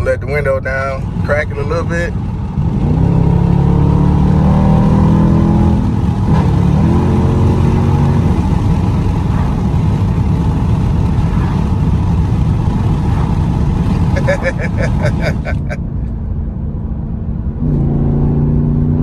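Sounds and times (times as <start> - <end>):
car engine accelerating hard: 0.0 - 16.1, 16.7 - 19.0.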